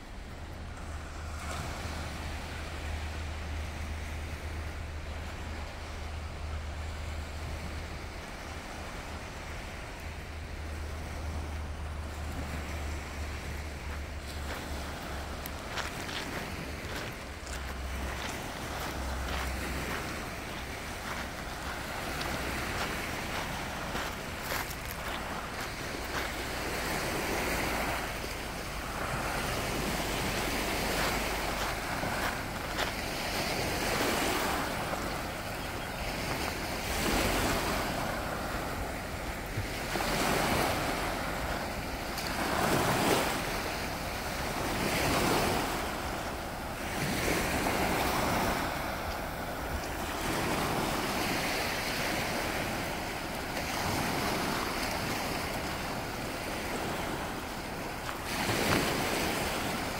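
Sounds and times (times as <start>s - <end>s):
small waves breaking on sand: 0.0s - 59.9s.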